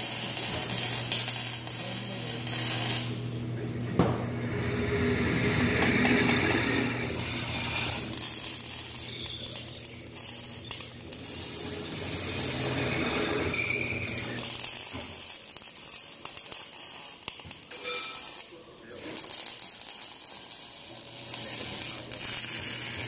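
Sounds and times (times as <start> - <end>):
arc welding crackle: 0.0 - 3.6, 4.4 - 23.0.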